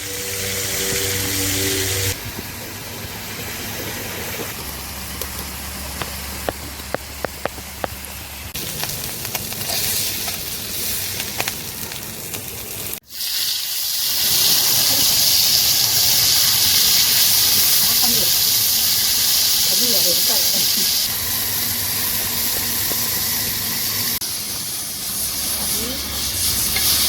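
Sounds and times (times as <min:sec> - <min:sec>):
oil crackling: 0:02.2 - 0:27.0
fish sizzling on a griddle: 0:02.5 - 0:27.0.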